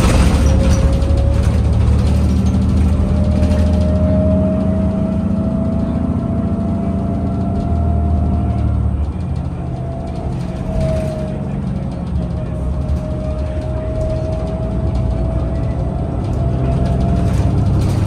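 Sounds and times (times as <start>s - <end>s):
bus drivetrain rumble: 0.0s - 18.0s.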